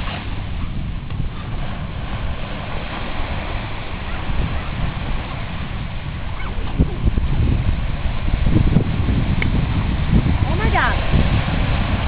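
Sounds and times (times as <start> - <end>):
surf hiss: 0.0 - 12.0
wind rumbling on microphone: 0.0 - 12.0.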